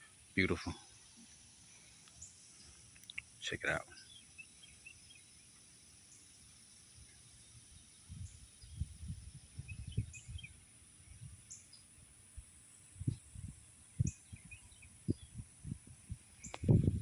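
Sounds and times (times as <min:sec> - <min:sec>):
bird chirps: 0:00.0 - 0:12.0, 0:12.9 - 0:16.9
steady high hiss: 0:00.0 - 0:17.0.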